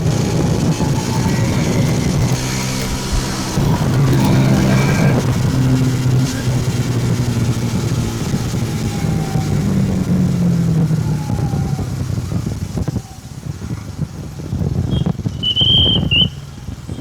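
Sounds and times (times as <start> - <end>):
motorcycle engine running: 0.0 - 17.0
wind noise over microphone: 0.0 - 17.0.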